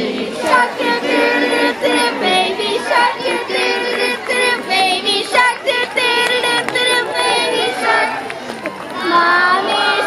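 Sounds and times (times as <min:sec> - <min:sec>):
high singing voice: 0:00.0 - 0:08.3, 0:09.0 - 0:10.0.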